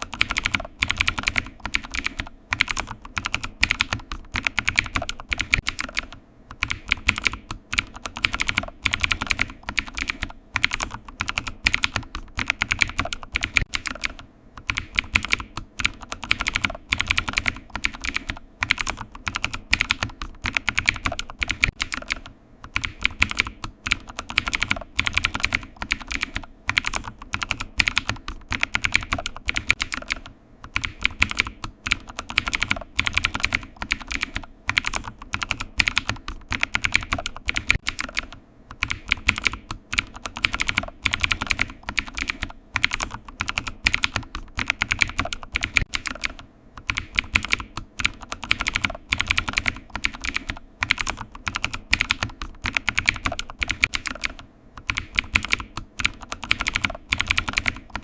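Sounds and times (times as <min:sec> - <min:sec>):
computer keyboard typing: 0:00.0 - 0:58.0.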